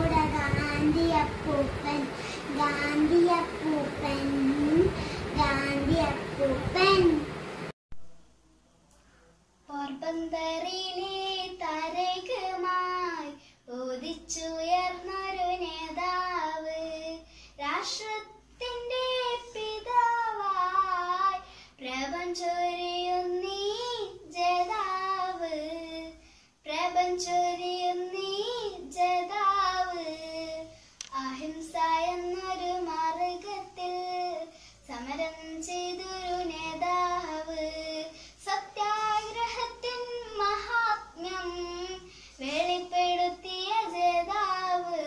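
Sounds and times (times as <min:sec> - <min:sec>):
girl singing unaccompanied: 0:00.0 - 0:07.7, 0:09.6 - 0:45.0.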